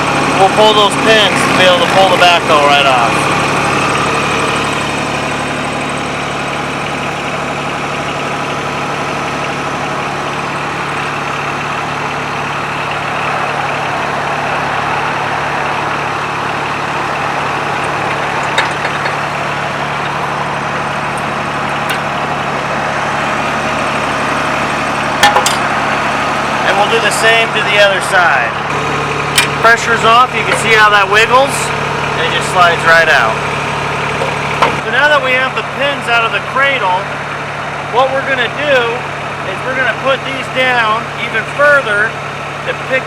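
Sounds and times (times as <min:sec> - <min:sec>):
tractor diesel engine idling: 0:00.0 - 0:43.0.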